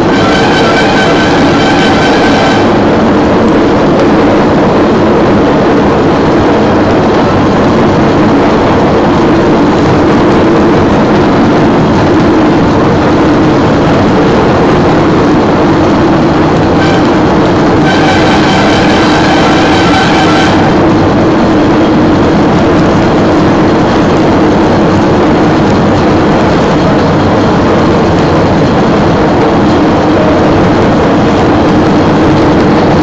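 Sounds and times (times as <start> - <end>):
rail vehicle rumbling in tunnel: 0.0 - 33.0.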